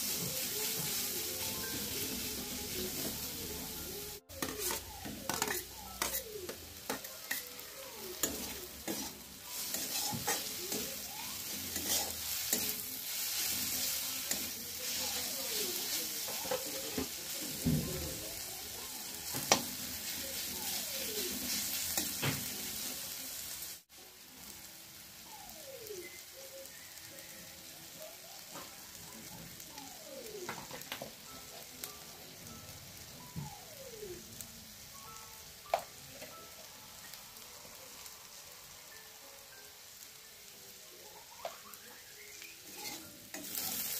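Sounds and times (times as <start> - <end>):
food sizzling in a pan: 0.0 - 43.9.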